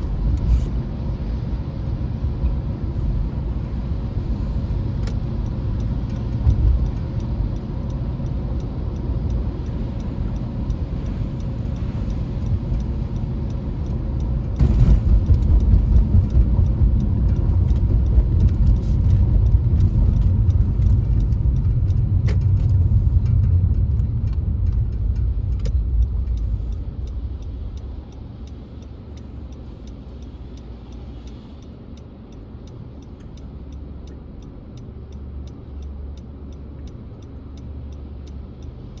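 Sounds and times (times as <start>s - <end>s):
car road and engine rumble: 0.0s - 39.0s
faint regular ticking: 3.7s - 39.0s.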